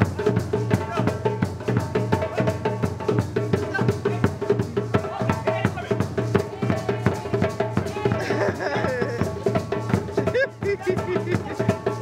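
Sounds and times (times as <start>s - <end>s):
lively drum music: 0.0s - 12.0s.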